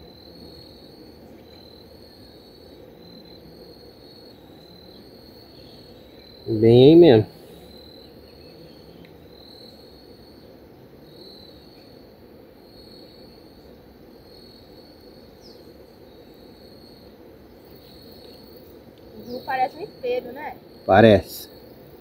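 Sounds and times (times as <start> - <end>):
insects chirping in trills: 0.0 - 22.0
low background hiss: 0.0 - 22.0.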